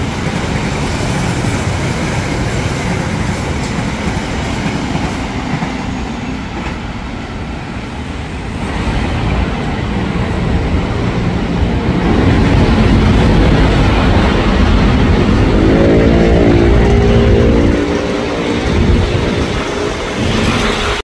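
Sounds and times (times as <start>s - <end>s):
multi-tone train whine: 0.0s - 21.0s
train rumble: 0.0s - 21.0s.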